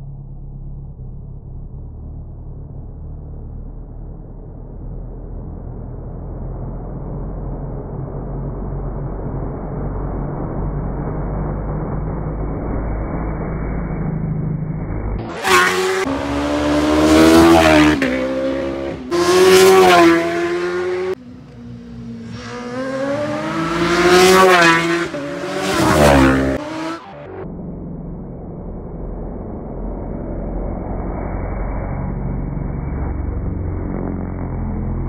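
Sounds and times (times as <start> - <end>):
motorbike approaching rumble: 0.0 - 35.0.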